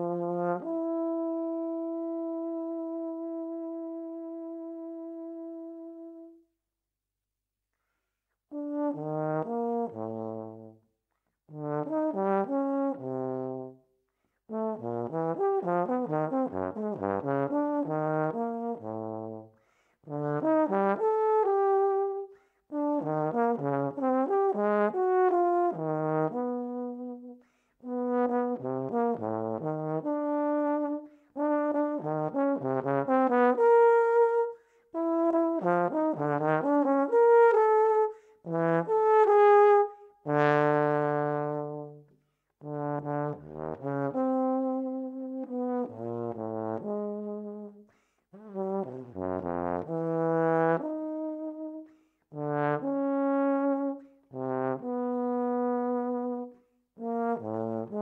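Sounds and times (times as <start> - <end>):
solo euphonium playing: 0.0 - 6.4, 8.5 - 10.8, 11.5 - 13.9, 14.5 - 19.5, 20.1 - 58.0.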